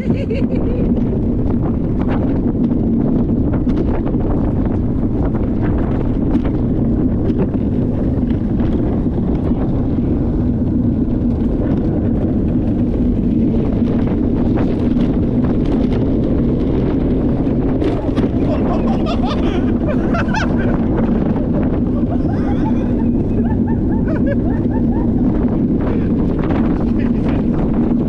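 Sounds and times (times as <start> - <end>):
wheels rumbling on concrete: 0.0 - 28.0
wind buffeting microphone: 0.0 - 28.0.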